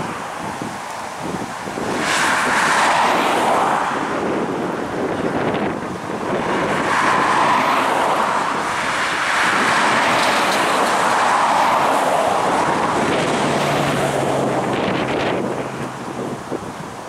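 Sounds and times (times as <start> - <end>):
vehicles driving past: 0.0 - 17.0.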